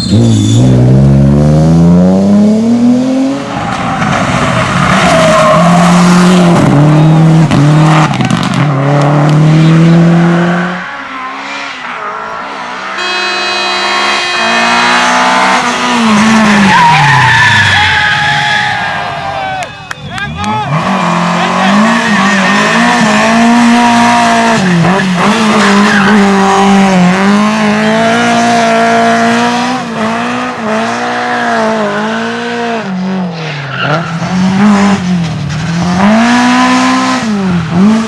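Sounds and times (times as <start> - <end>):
rally car engine at full throttle: 0.0 - 38.0.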